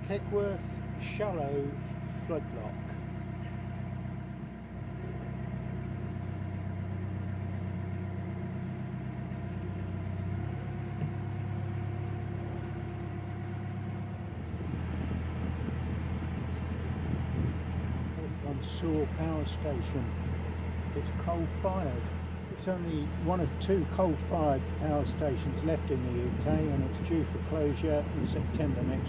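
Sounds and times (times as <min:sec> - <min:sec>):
boat diesel engine running: 0:00.0 - 0:29.0.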